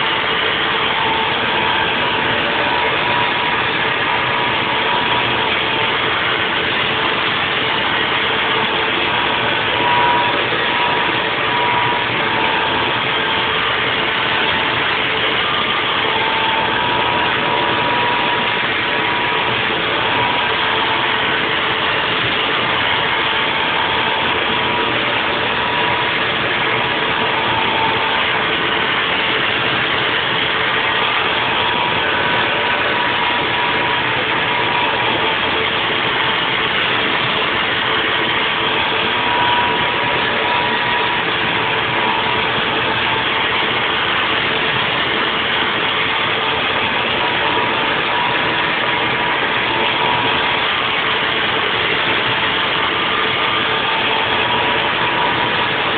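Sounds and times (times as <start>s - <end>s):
milling machine cutting noise: 0.0s - 55.9s
thin machine whine: 0.0s - 55.9s.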